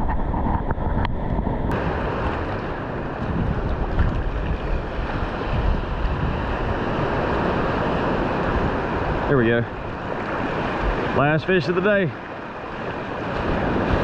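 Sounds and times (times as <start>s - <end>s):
small waves washing around pilings: 0.0s - 14.0s
wind buffeting microphone: 0.0s - 14.0s.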